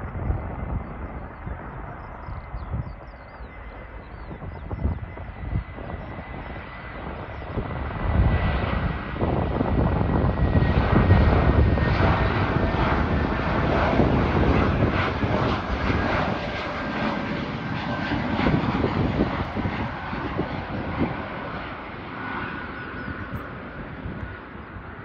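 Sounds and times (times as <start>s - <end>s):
jet airliner flying low past: 0.0s - 25.0s.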